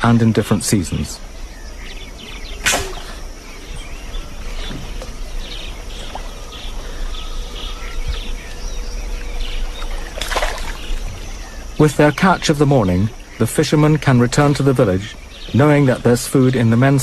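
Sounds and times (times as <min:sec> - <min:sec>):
birds chirping: 0:00.0 - 0:17.0
high insect drone: 0:00.0 - 0:17.0.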